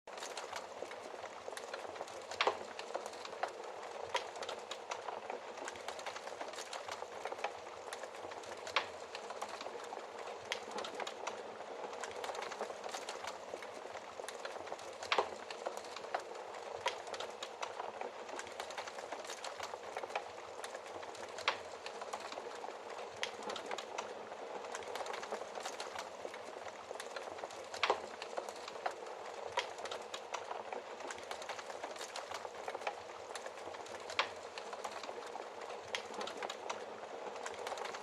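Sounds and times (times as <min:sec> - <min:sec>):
wood fire crackling: 0:00.1 - 0:38.0.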